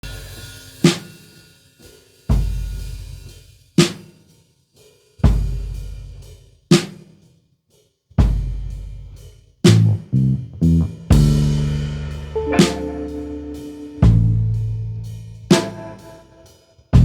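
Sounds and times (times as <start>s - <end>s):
slow drum kit beat: 0.0s - 7.2s, 8.2s - 17.0s.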